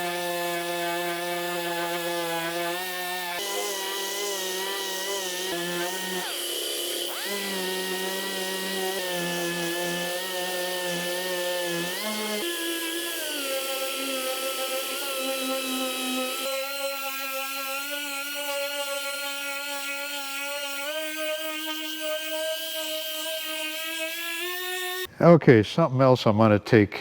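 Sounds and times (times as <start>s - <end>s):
power sander whining on metal: 0.0s - 25.1s.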